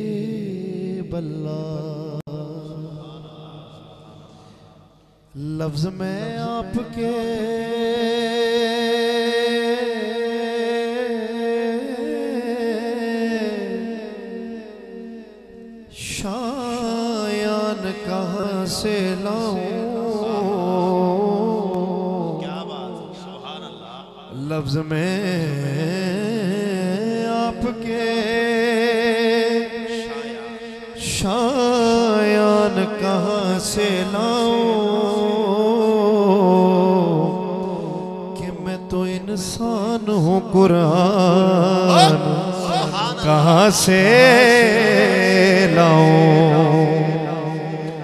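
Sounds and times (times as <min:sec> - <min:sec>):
man singing a long note: 0:05.3 - 0:48.0.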